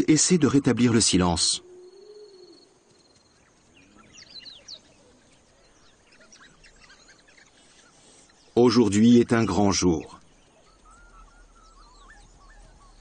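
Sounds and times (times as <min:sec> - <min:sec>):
wild dogs twittering chirps: 0:00.0 - 0:13.0.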